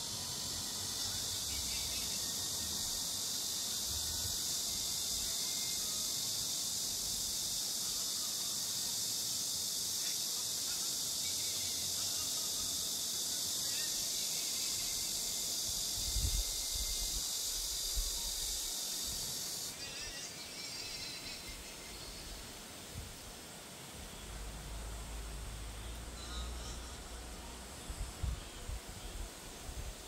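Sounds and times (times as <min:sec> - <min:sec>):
insects chorus hissing: 0:00.0 - 0:30.0.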